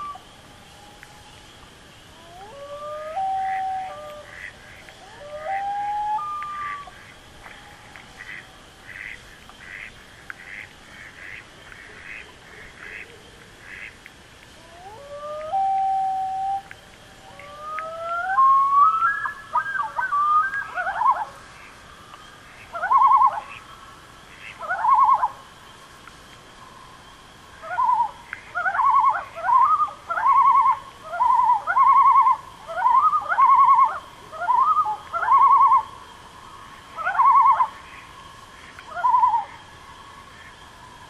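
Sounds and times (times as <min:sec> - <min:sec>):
loons tremolo calls: 0:00.0 - 0:25.8, 0:26.6 - 0:41.0
spring peepers chorus: 0:00.0 - 0:41.0.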